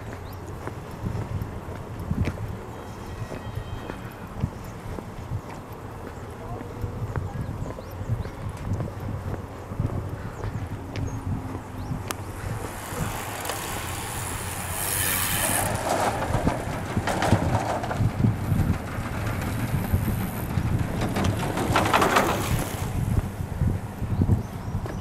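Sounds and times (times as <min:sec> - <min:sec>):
footsteps on paved path: 0:00.0 - 0:18.8, 0:22.5 - 0:25.0
bicycles passing: 0:00.0 - 0:25.0.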